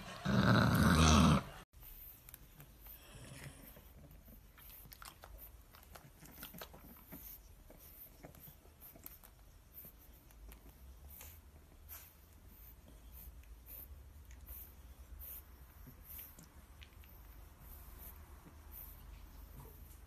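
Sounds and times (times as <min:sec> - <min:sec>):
puppies squirming clicks and rustles: 0:01.6 - 0:20.0.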